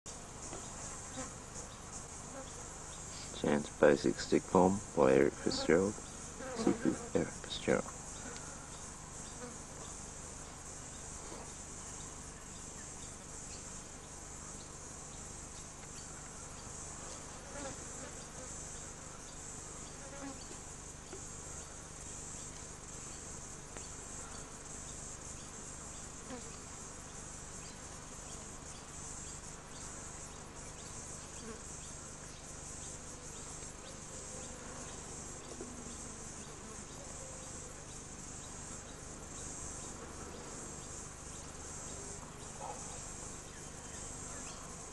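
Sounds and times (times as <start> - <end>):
insect chorus: 0.1 - 44.9.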